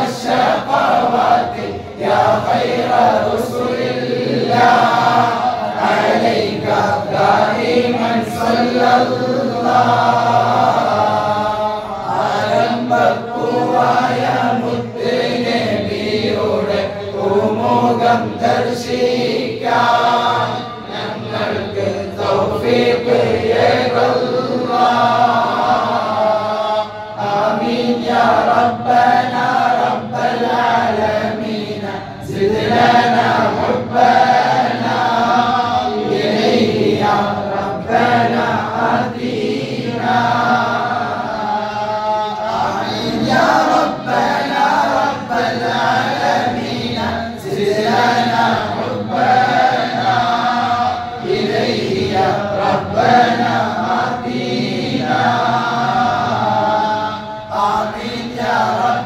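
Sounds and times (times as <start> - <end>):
group of voices chanting: 0.0 - 59.0.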